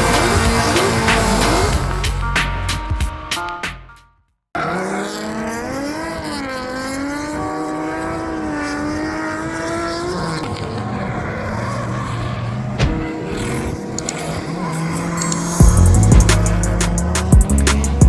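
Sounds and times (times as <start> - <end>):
car engine revving: 0.0 - 2.5, 4.6 - 18.0.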